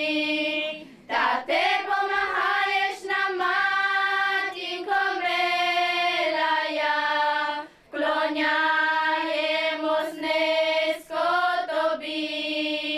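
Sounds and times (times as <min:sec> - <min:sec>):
girls' choir singing: 0:00.0 - 0:12.9.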